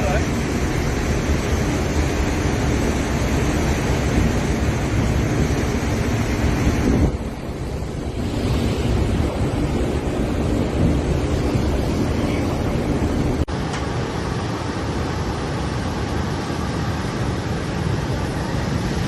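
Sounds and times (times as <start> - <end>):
churning water: 0.0 - 19.0
wind buffeting microphone: 0.0 - 19.0
wind rushing: 0.0 - 19.0.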